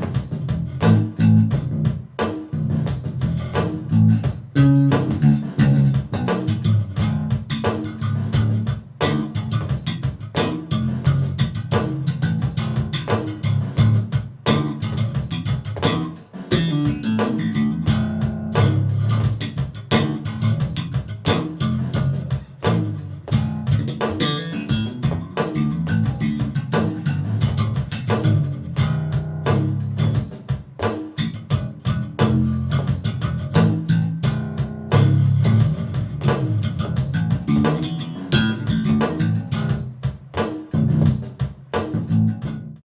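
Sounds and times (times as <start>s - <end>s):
electric bass plucked notes: 0.0s - 42.8s.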